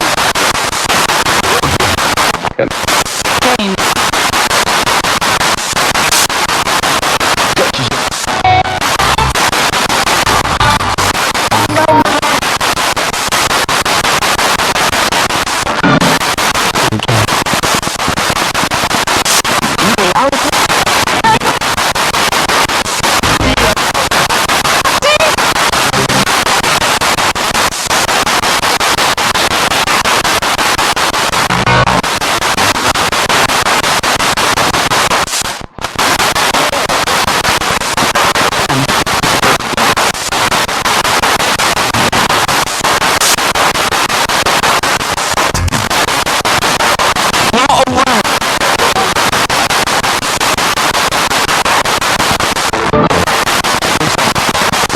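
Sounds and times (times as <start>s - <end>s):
radio static and hiss: 0.0s - 54.9s
snatches of broadcast voices: 0.0s - 54.9s.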